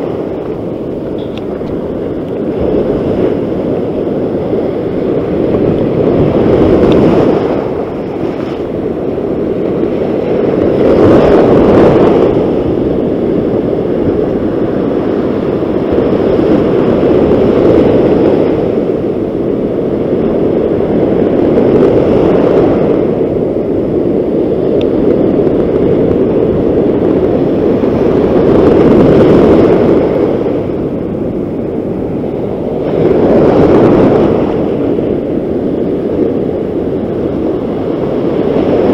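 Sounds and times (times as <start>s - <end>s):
surf and wind rushing: 0.0s - 38.9s
waves breaking on beach: 0.0s - 38.9s.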